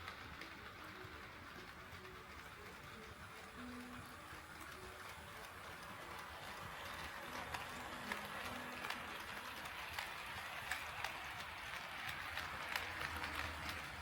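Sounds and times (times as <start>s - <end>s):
model train rolling hiss: 0.0s - 14.0s
wheels clicking over rail joints: 0.0s - 14.0s.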